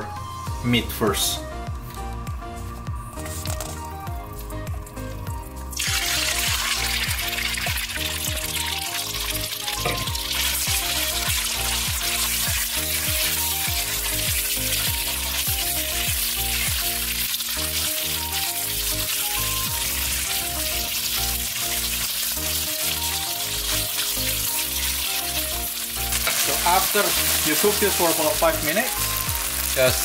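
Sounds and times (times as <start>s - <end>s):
background music with steady beat: 0.0s - 30.0s
meat sizzling in hot oil: 3.4s - 30.0s.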